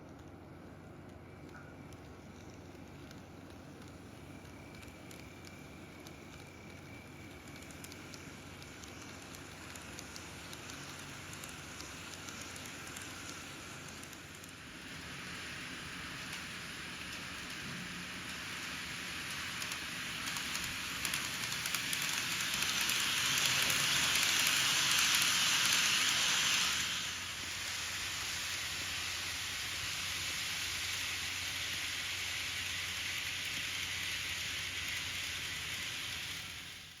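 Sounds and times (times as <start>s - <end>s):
model train running on track: 0.0s - 37.0s.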